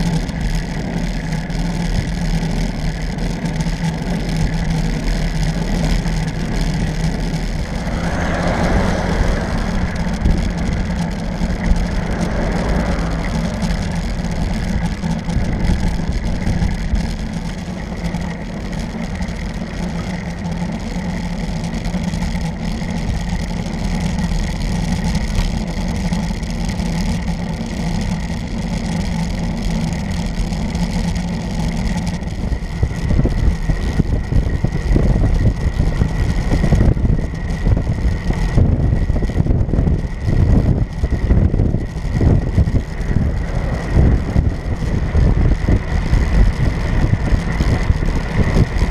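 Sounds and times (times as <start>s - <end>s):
tyres on asphalt: 0.0s - 48.9s
wind rumble: 0.0s - 48.9s.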